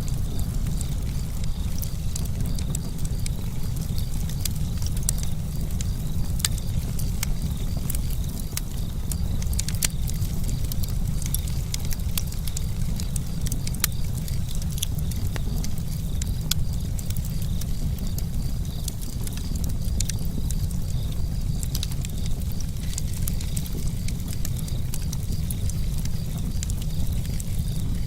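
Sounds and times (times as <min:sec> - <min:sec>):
campfire crackling and popping: 0:00.0 - 0:28.0
fire low rumble: 0:00.0 - 0:28.0.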